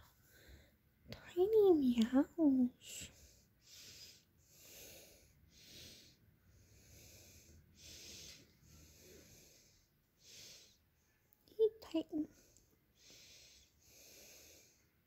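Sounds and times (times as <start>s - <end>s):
soft breathing: 0.0s - 0.9s, 2.8s - 11.4s, 12.1s - 15.0s.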